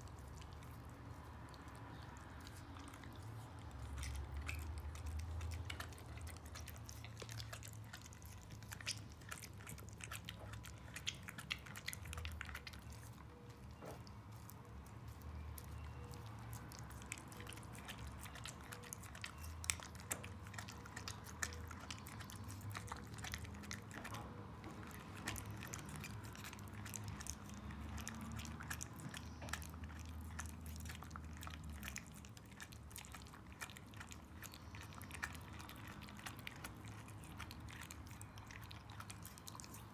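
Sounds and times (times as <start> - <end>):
dog chewing a bone: 0.0 - 39.9.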